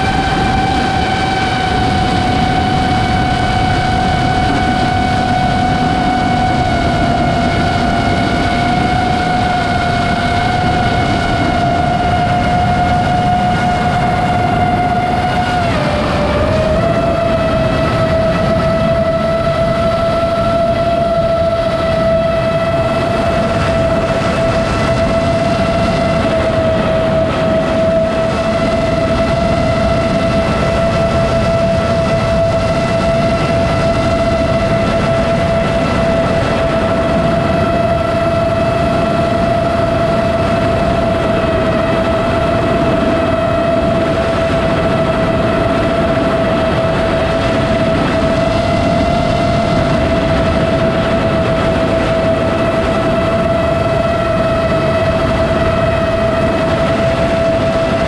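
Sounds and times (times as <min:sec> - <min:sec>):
constant rushing noise: 0:00.0 - 0:58.0
drone propellers whining: 0:00.0 - 0:58.0.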